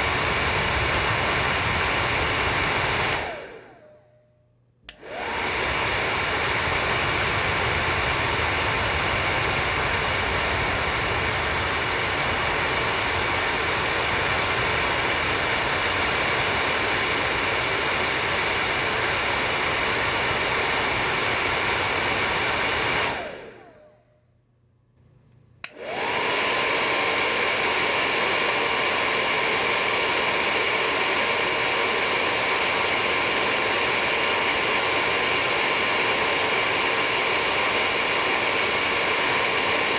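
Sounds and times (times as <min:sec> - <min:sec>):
hair dryer blowing: 0:00.0 - 0:04.2, 0:04.9 - 0:24.2, 0:25.6 - 0:39.9.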